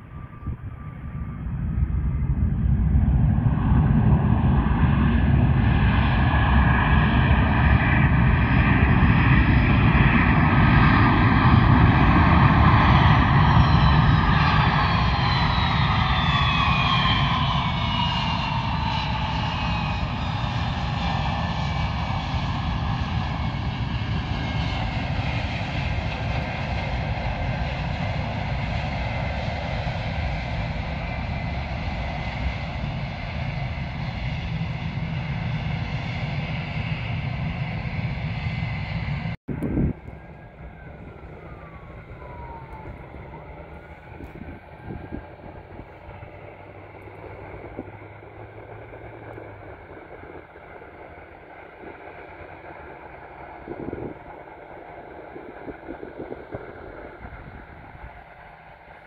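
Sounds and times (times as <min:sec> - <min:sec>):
jet engines rumbling with whine: 0:00.0 - 0:59.0.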